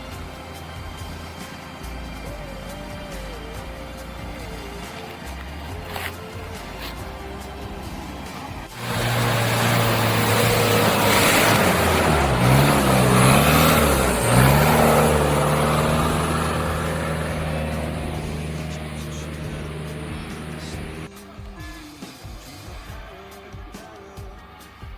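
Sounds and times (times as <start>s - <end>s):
loud rushing hiss: 0.0s - 21.3s
off-road engine revving: 0.0s - 24.9s.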